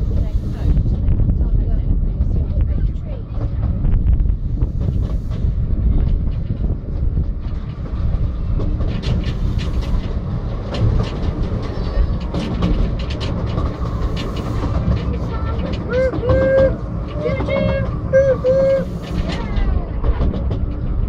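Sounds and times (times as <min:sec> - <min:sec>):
train carriage rumbling: 0:00.0 - 0:21.0
wheels clicking on rails: 0:00.0 - 0:21.0.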